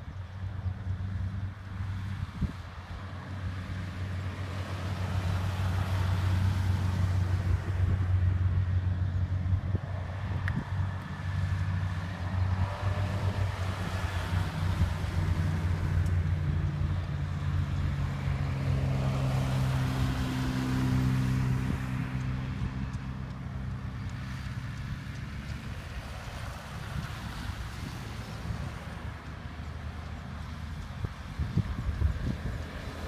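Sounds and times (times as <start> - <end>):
vehicle engines driving past: 0.0 - 33.0
wind on microphone: 0.0 - 33.0.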